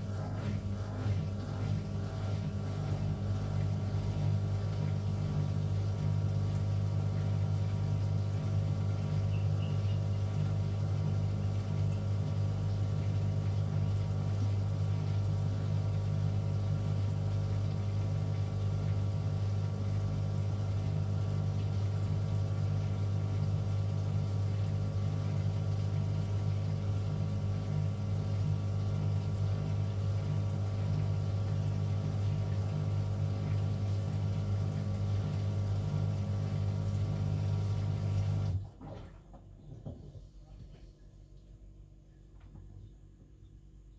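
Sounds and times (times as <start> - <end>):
washing machine drum spinning: 0.0 - 40.2.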